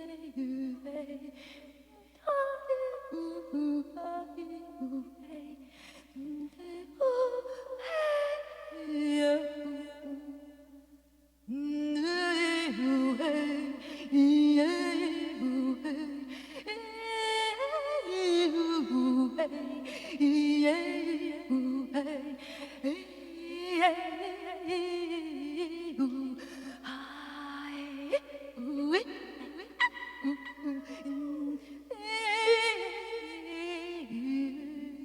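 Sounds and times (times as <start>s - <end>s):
steady low vocal hum: 0.0s - 35.0s.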